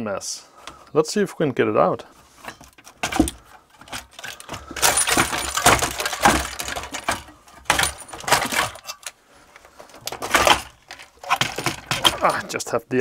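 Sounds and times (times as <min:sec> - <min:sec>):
rattling and clinking of hard parts: 0:02.2 - 0:12.7.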